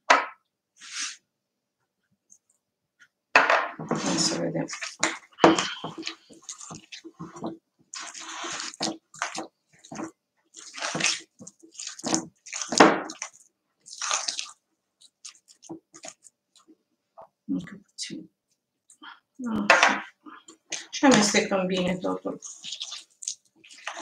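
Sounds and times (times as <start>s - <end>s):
spoon stirring thick wet mixture: 2.2s - 17.5s, 20.0s - 24.0s.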